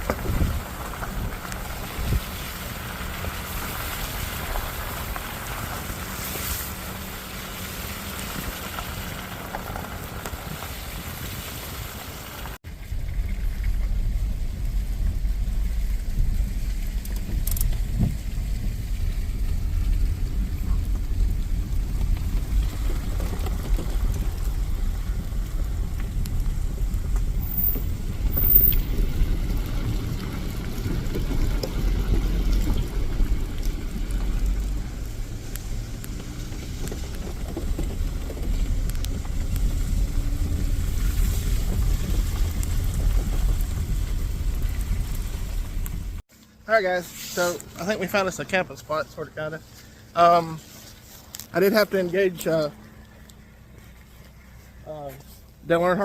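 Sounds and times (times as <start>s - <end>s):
van engine and road rumble: 0.0s - 56.0s.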